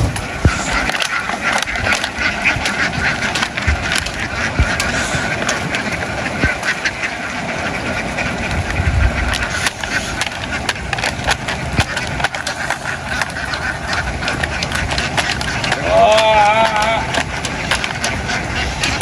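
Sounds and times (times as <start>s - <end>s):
flock of ducks quacking: 0.0s - 19.0s.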